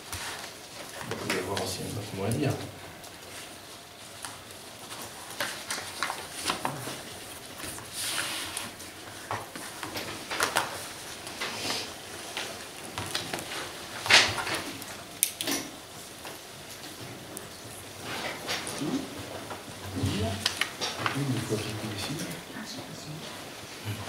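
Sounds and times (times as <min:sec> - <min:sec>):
papers rustling: 0:00.0 - 0:15.2, 0:15.8 - 0:22.5.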